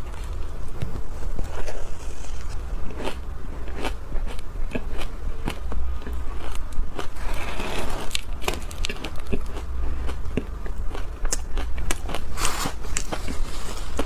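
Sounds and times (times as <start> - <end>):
ice being chewed: 1.4 - 14.0.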